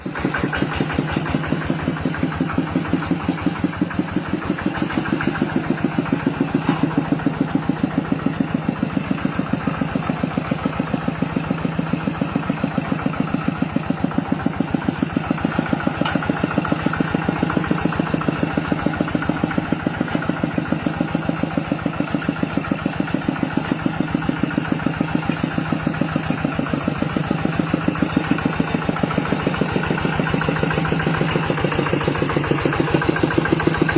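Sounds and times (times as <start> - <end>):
diesel tractor engine idling: 0.0 - 33.9.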